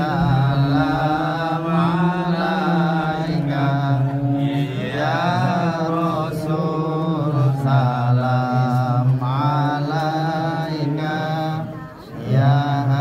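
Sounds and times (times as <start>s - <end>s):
group chanting devotional song: 0.0s - 13.0s.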